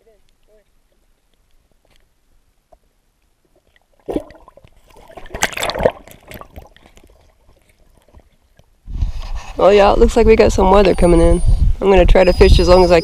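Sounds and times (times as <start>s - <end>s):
water sloshing underwater: 0.2s - 11.1s.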